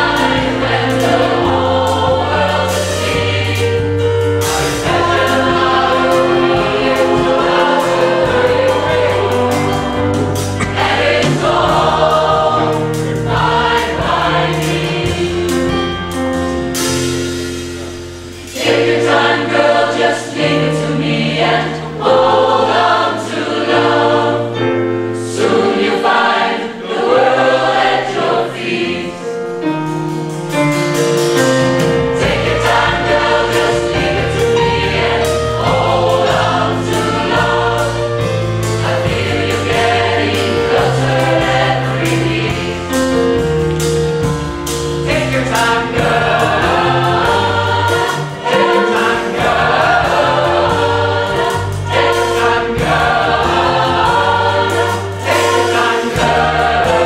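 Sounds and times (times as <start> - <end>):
band playing drums guitar keyboard: 0.0 - 19.9, 27.8 - 57.0
choir singing in chords: 0.0 - 57.0.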